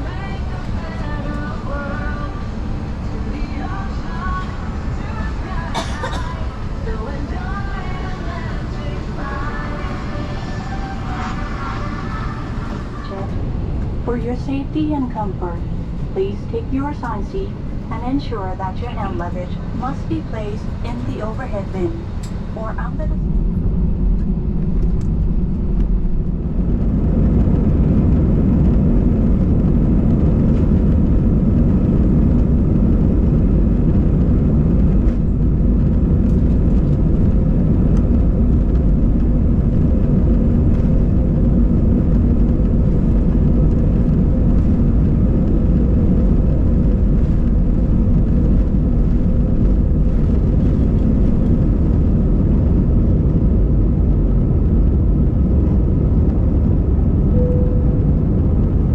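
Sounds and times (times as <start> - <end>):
jet engines rumbling in cabin: 0.0 - 58.9.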